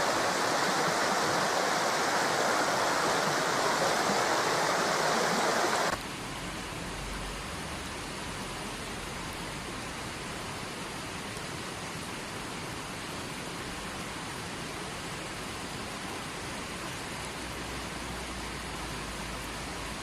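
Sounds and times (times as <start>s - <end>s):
stream flowing over rocks: 0.0s - 20.0s.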